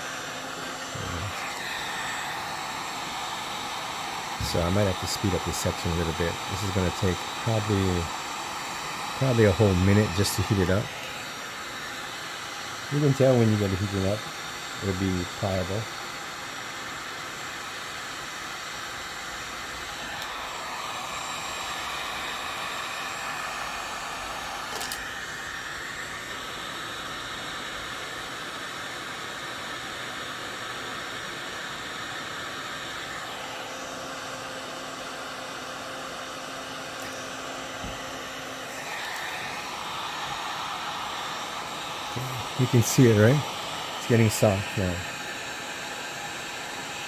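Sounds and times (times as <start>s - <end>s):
heat gun fan blowing: 0.0s - 47.0s.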